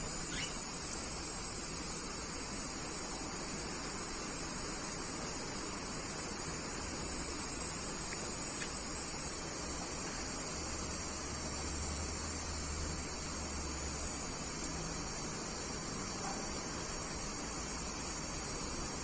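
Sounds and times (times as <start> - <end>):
running water hissing: 0.0 - 19.0.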